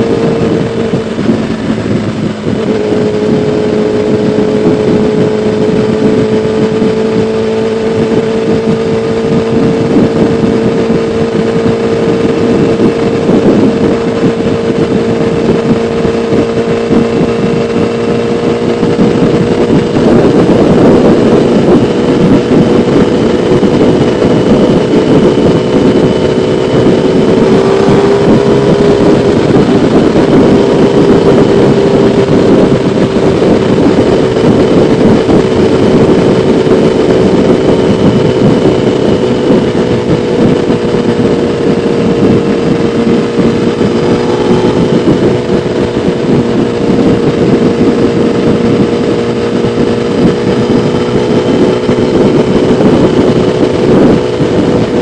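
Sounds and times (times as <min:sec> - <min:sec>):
motorcycle engine running: 0:00.0 - 0:55.0
rushing wind and road noise: 0:00.0 - 0:55.0.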